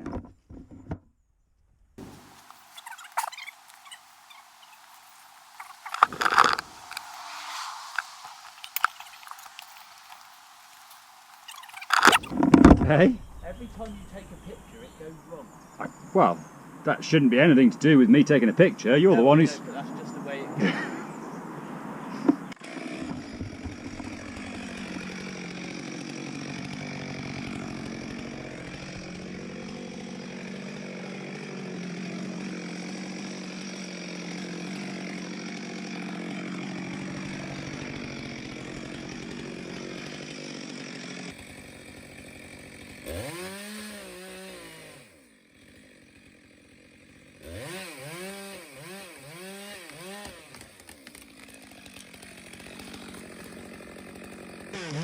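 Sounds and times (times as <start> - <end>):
chainsaw revving in blips: 2.0 - 12.4, 17.9 - 55.0
chainsaw cutting wood: 2.0 - 12.8, 20.6 - 21.2, 22.1 - 55.0.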